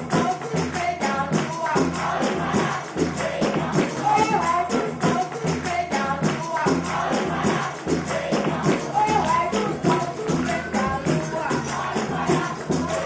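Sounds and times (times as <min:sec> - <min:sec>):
fast percussion beat: 0:00.0 - 0:13.0
voices singing: 0:00.0 - 0:13.0.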